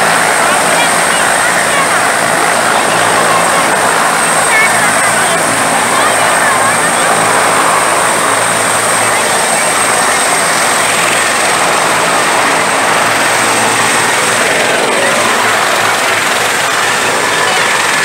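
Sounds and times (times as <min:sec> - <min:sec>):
helicopter running: 0:00.0 - 0:18.0
high turbine whine: 0:00.0 - 0:18.0.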